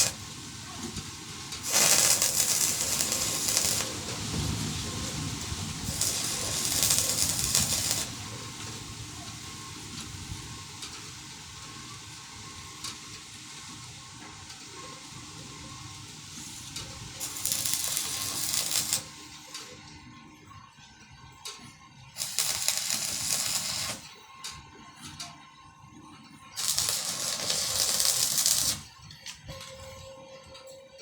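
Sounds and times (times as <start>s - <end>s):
arc welding crackling: 0.0s - 19.8s, 22.2s - 24.2s, 26.5s - 29.5s.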